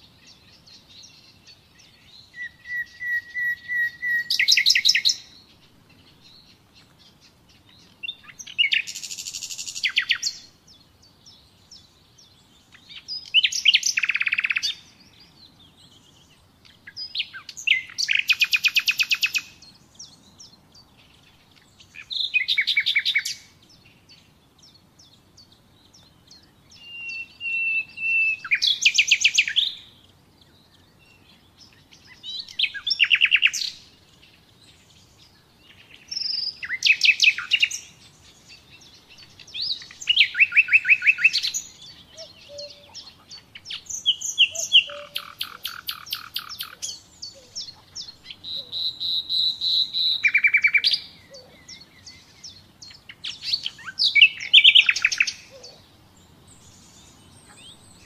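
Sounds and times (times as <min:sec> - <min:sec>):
nightingale singing: 0:00.0 - 0:58.0
soft bird chirps: 0:00.0 - 0:58.0.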